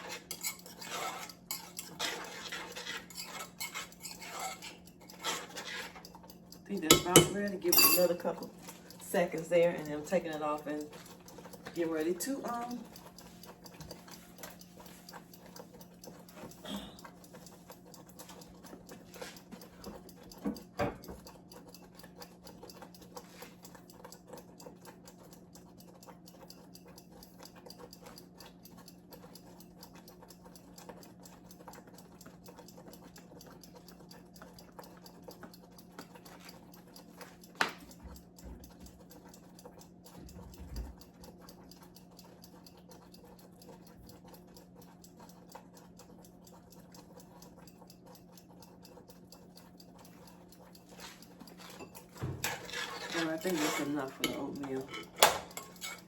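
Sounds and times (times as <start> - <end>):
low appliance hum: 0.0 - 56.0
ticking and pattering: 0.0 - 56.0.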